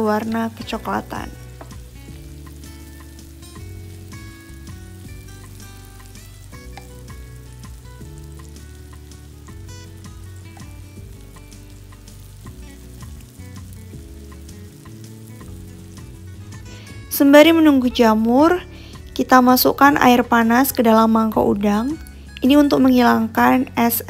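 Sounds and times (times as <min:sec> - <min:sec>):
light background music: 0:00.0 - 0:24.0
mushrooms sizzling in pan: 0:00.0 - 0:24.0.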